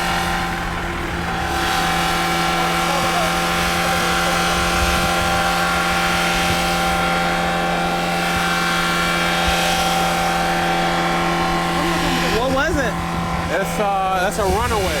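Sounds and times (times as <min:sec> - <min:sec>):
diesel engine running flat out: 0:00.0 - 0:15.0.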